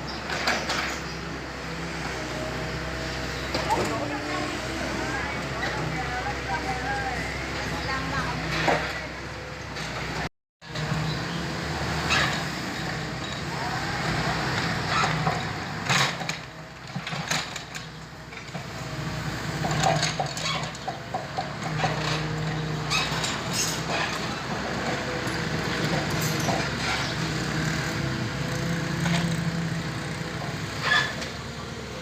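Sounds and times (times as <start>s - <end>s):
engine running: 0.0s - 32.0s.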